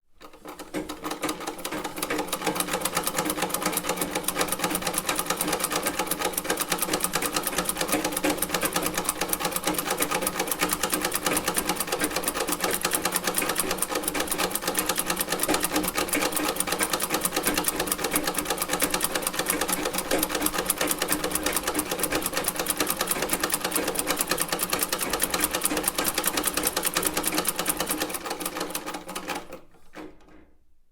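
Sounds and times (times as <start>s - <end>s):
sewing machine clattering: 0.2s - 30.6s.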